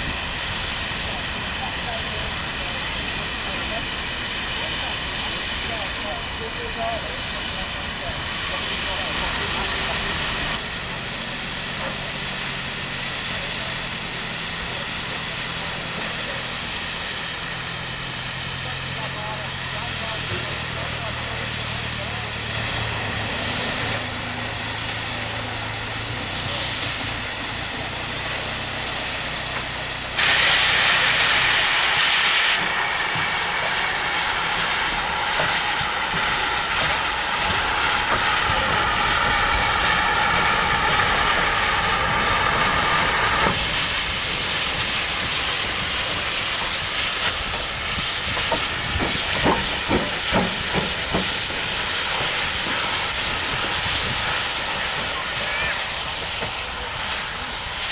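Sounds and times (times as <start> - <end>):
locomotive steam hissing: 0.0 - 57.9.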